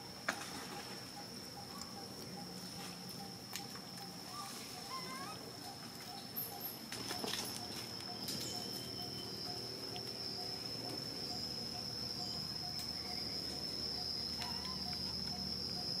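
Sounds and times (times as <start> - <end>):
insects buzzing high-pitched: 0.0 - 16.0
low insect pulse: 0.0 - 16.0.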